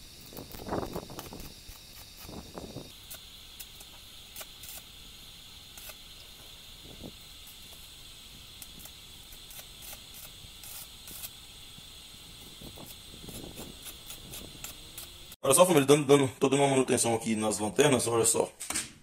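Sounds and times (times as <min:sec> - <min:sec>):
welding arc hissing: 0:00.0 - 0:15.4
welding crackles and pops: 0:00.0 - 0:15.4.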